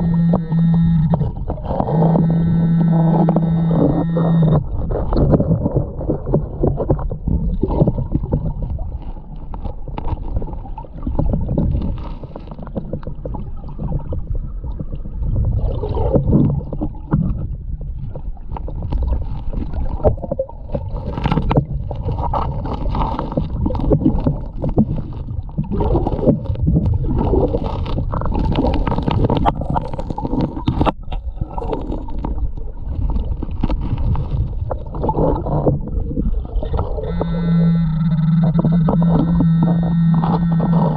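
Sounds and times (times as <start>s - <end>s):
muffled water rumbling underwater: 0.0s - 40.9s.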